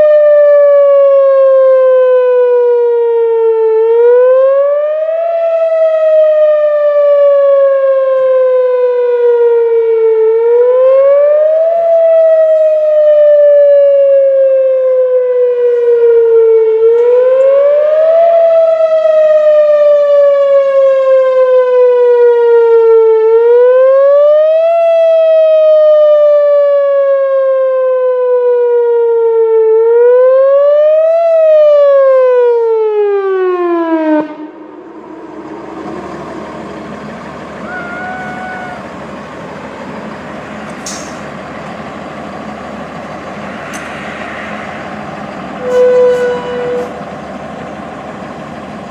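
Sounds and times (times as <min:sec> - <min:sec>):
siren wailing: 0:00.0 - 0:40.6, 0:42.0 - 0:48.9.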